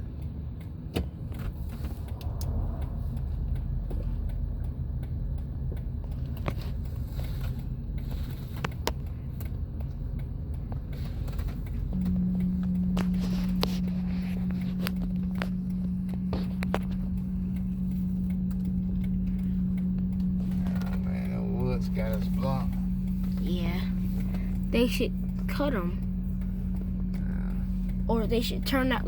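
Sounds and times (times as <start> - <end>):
car engine rumble: 0.0 - 29.0
steady low hum: 0.0 - 29.0.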